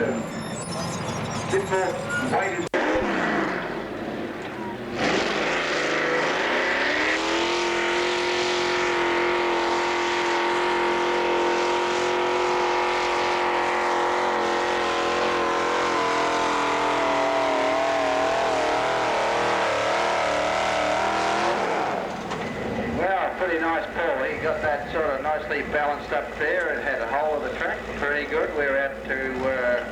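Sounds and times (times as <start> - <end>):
tractor engine revving: 0.0 - 28.2.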